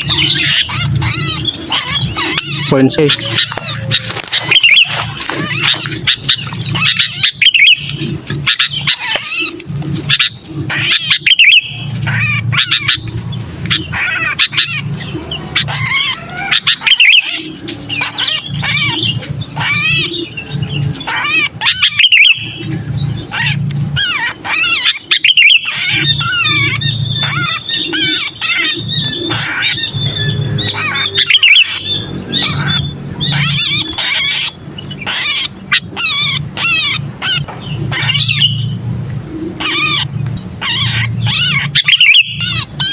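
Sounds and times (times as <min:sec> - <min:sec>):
bird chirping and squealing: 0:00.0 - 0:42.9
low pulsing hum: 0:00.0 - 0:42.9.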